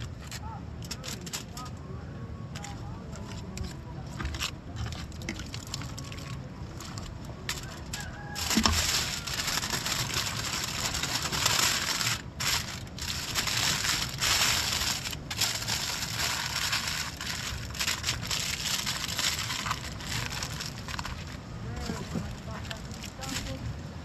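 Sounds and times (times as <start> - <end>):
aluminium foil crinkling: 0.0 - 1.8, 2.5 - 23.6.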